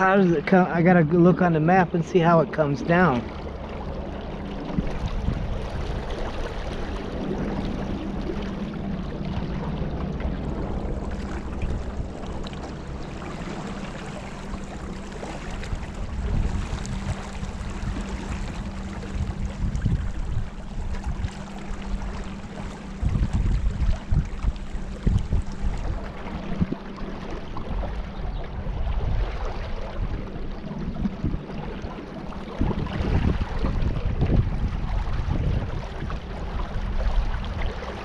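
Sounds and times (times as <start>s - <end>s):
water sloshing around boat: 0.0s - 38.0s
wind rumble on microphone: 0.0s - 38.0s.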